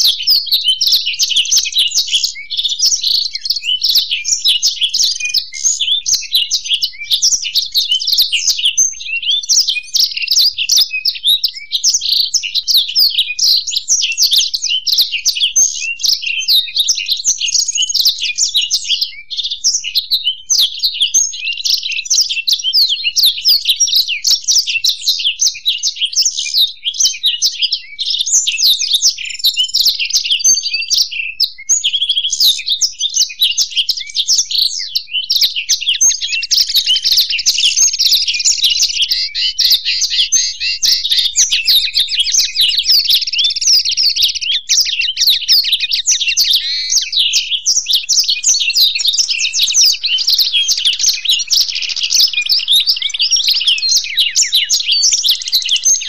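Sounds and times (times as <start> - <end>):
songbirds twittering and trilling: 0.0 - 56.0.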